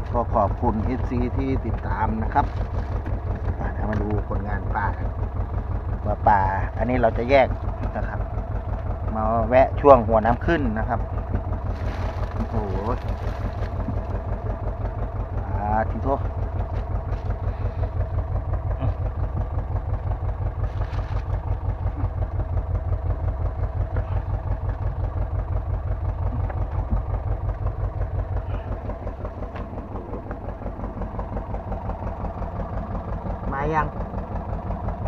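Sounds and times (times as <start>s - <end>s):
boat engine idling: 0.0s - 35.0s.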